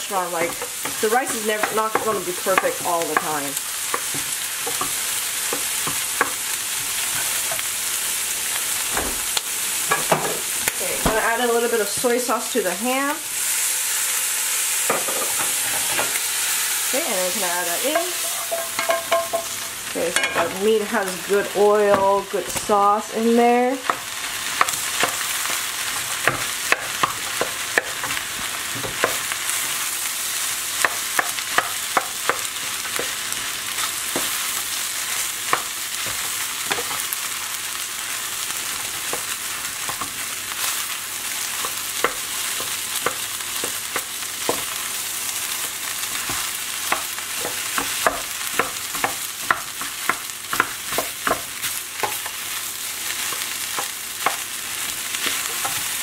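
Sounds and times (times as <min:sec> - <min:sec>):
rice sizzling in skillet: 0:00.0 - 0:56.0.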